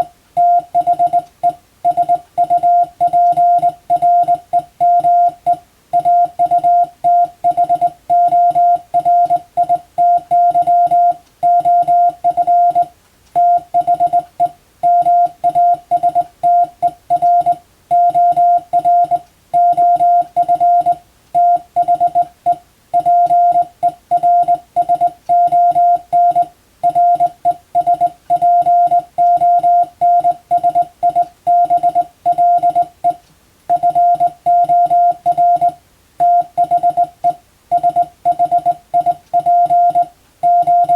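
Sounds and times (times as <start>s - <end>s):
morse code tone: 0.0s - 40.9s.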